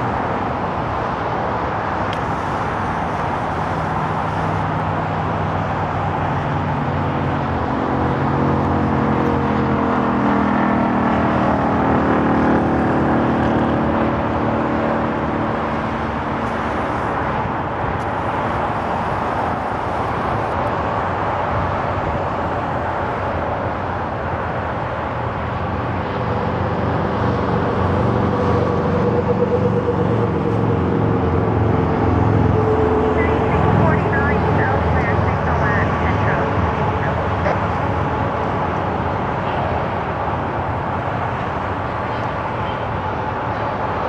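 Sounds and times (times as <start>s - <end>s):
highway traffic rushing: 0.0s - 44.0s
low engine drone: 0.0s - 44.0s.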